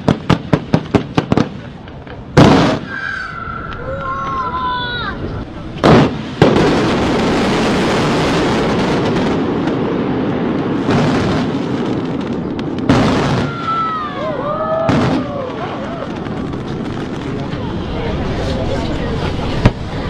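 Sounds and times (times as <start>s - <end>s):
whistling fireworks: 0.0s - 5.0s, 5.6s - 20.0s
fireworks blasts: 0.0s - 20.0s
fireworks launching: 0.0s - 20.0s.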